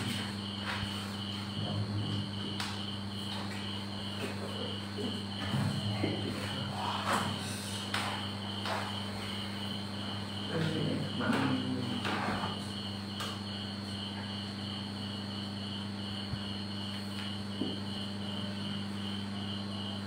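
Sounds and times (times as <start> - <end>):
cricket chirping: 0.0 - 20.0
low electrical hum: 0.0 - 20.0.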